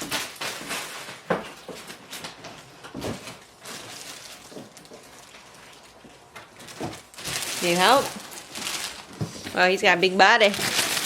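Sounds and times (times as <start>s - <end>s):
cardboard and plastic handling: 0.0s - 9.8s, 10.4s - 11.0s
faint room noise: 0.0s - 11.0s.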